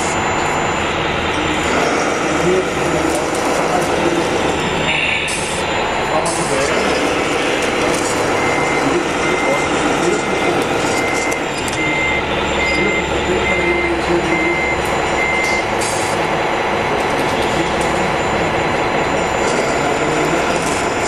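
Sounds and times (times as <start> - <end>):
reversing beeper: 0.0 - 21.0.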